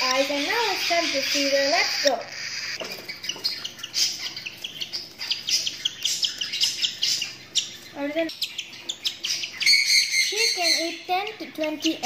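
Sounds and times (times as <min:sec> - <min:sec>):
cockatiel chirping: 0:00.0 - 0:12.0.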